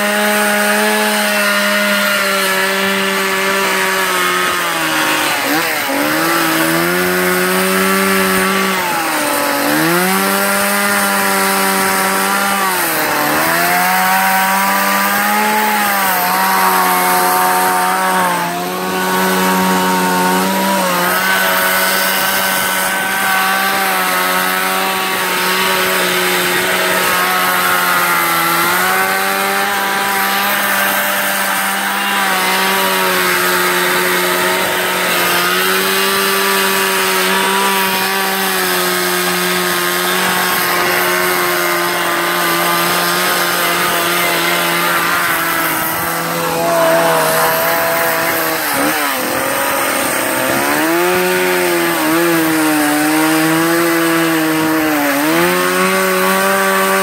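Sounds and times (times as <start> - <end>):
chainsaw carving into log: 0.0 - 57.0.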